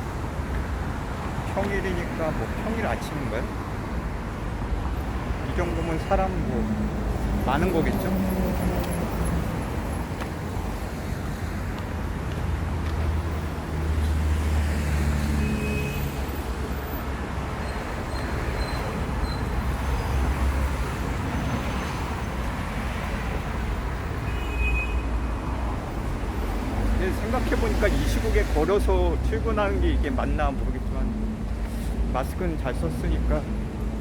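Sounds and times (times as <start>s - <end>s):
road traffic rumbling: 0.0s - 34.0s.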